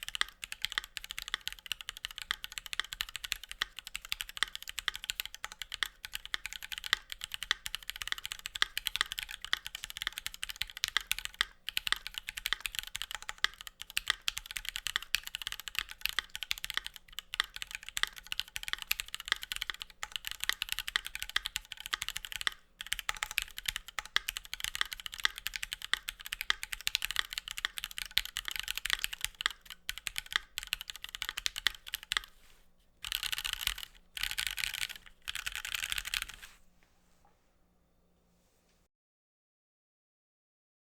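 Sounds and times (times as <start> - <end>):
mechanical keyboard typing: 0.0 - 32.4, 33.0 - 36.5.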